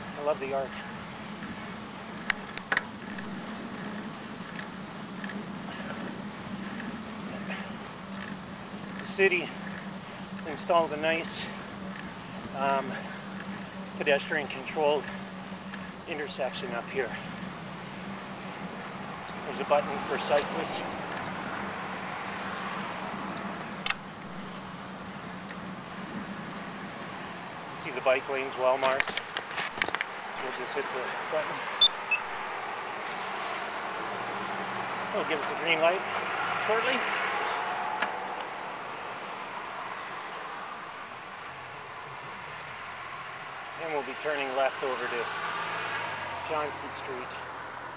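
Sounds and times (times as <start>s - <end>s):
bicycle on paved road humming: 0.0s - 47.9s
car passing: 0.0s - 47.9s.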